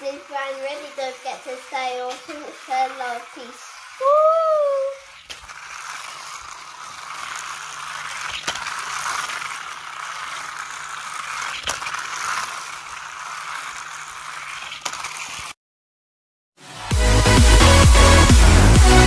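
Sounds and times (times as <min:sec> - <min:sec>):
toy car motor whirring: 0:00.0 - 0:15.6
wheels clattering over plastic track: 0:00.0 - 0:15.6.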